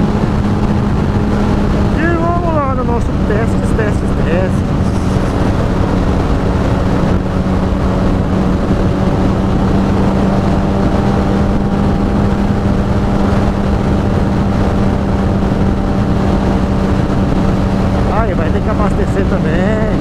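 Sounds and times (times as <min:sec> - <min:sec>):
motorcycle engine cruising: 0:00.0 - 0:20.0
road noise: 0:00.0 - 0:20.0
rushing wind: 0:00.0 - 0:20.0.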